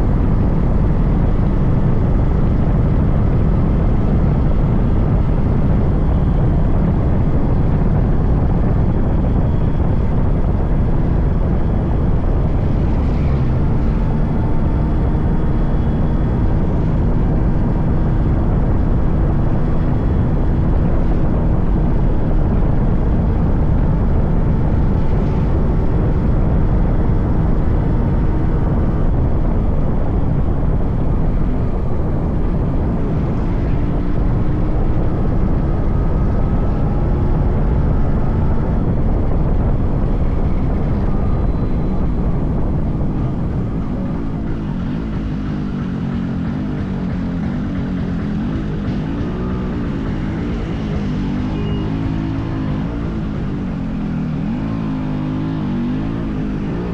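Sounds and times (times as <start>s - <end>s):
two-stroke motorcycle engine running: 0.0s - 56.9s.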